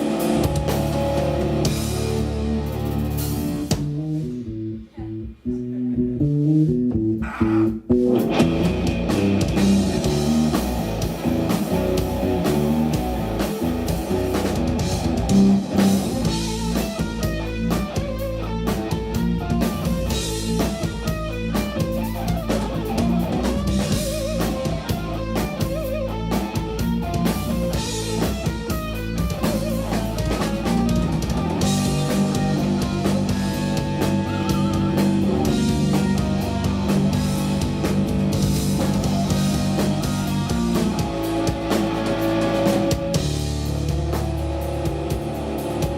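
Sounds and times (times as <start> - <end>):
bass guitar: 0.0 - 45.9
drum kit: 0.0 - 45.9
electric guitar: 0.0 - 45.9.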